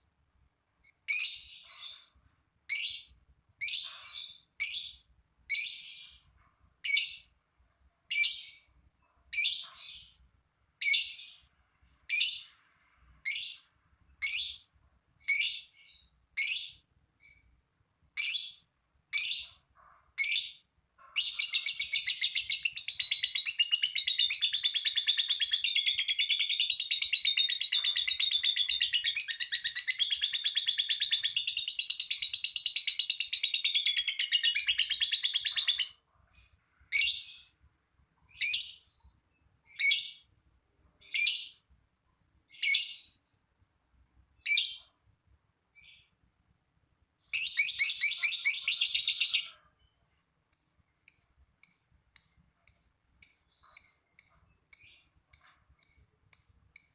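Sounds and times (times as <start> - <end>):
lovebird chirping and trilling: 0.8 - 7.3, 8.1 - 10.2, 10.8 - 12.6, 13.2 - 17.5, 18.2 - 19.6, 20.2 - 37.6, 38.3 - 40.3, 41.0 - 41.6, 42.5 - 43.2, 44.4 - 44.9, 45.8 - 46.1, 47.2 - 56.9.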